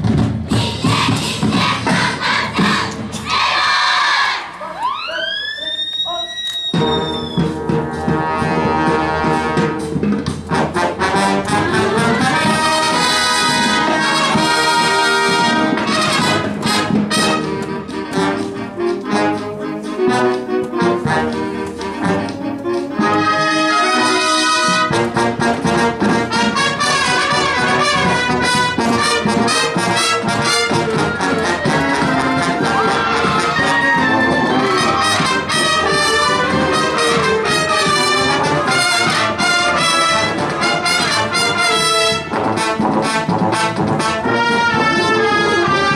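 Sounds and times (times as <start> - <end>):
marching drums: 0.0 - 4.3, 6.6 - 45.9
marching band playing: 0.0 - 45.9.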